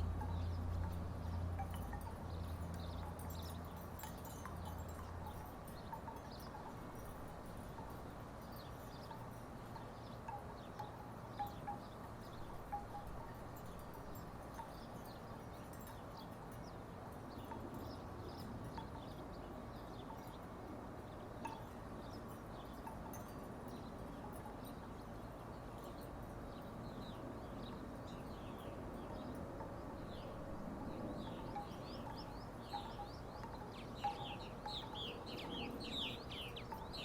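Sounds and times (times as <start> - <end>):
wooden wind chimes: 0.0 - 37.0.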